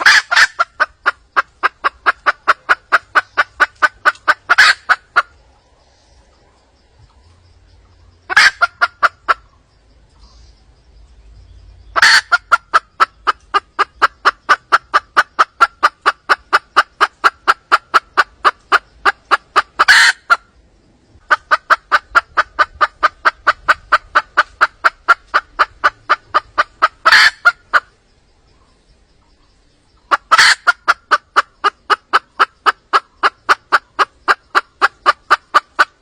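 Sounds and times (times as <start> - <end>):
hen clucking: 0.0 - 5.6, 7.1 - 10.6, 11.9 - 20.5, 21.2 - 28.0, 29.9 - 36.0.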